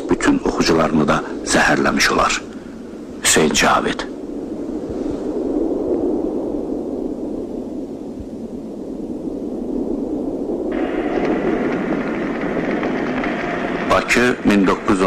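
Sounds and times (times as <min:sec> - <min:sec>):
hiss with faint crackles: 0:00.0 - 0:15.0
low rumbling noise: 0:00.0 - 0:15.0.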